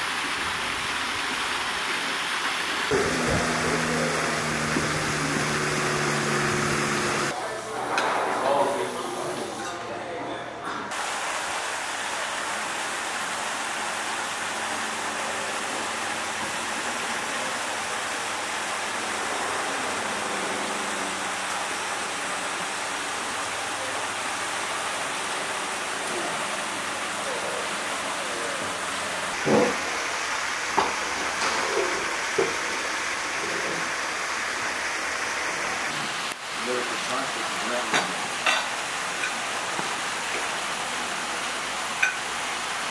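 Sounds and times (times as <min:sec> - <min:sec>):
steady rushing hiss: 0:00.0 - 0:07.6, 0:10.9 - 0:41.1.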